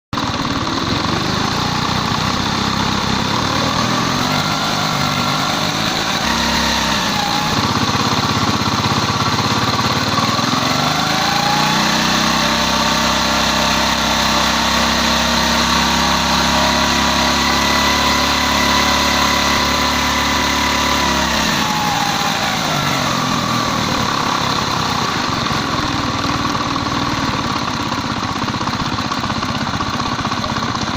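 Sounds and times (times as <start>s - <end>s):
motorcycle engine idling and revving: 0.1s - 30.9s.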